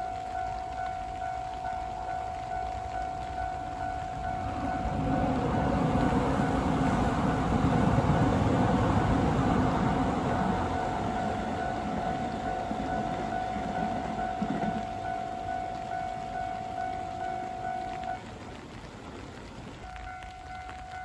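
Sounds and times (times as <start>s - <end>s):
electric train passing: 0.0s - 21.0s
steady rain: 0.0s - 21.0s.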